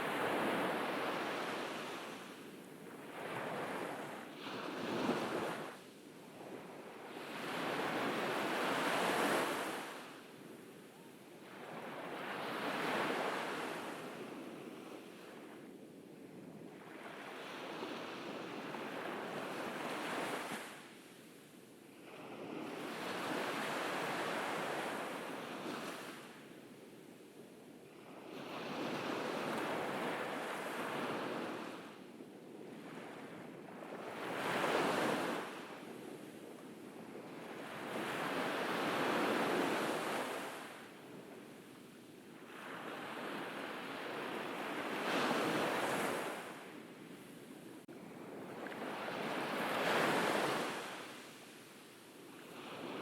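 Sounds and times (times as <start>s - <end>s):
ocean waves breaking on a beach: 0.0s - 53.0s.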